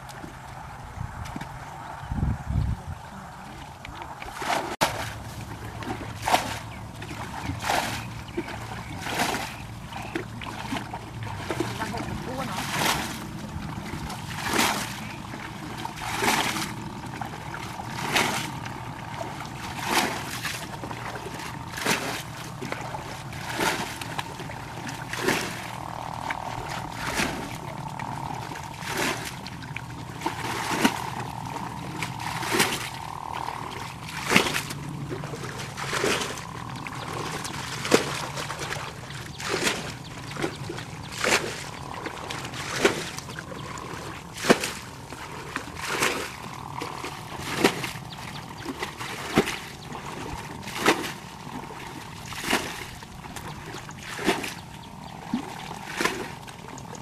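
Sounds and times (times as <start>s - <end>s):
water splashing: 2.7s - 57.0s.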